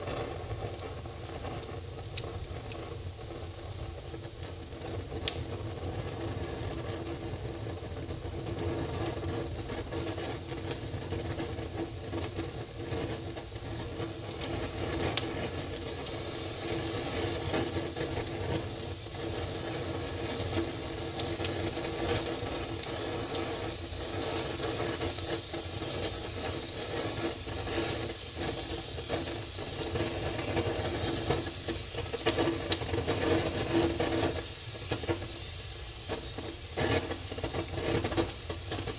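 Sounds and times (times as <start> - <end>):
wood fire crackling and hissing: 0.0 - 38.9.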